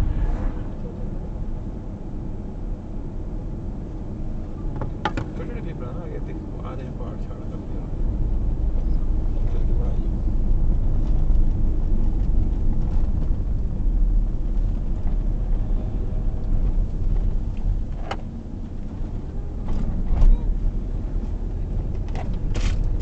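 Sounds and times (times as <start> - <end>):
car interior rumble: 0.0 - 23.0.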